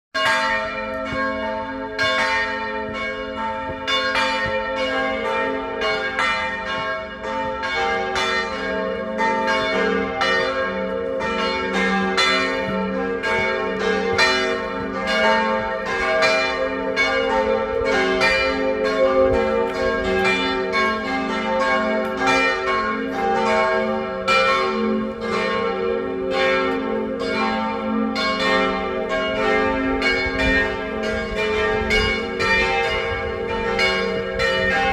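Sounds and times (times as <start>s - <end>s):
church bells pealing: 0.2s - 34.9s.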